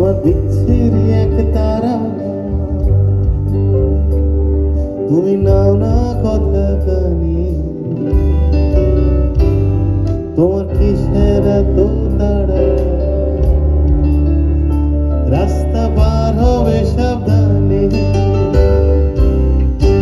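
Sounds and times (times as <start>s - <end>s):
gliding melodic lead line: 0.0s - 20.0s
live band music: 0.0s - 20.0s.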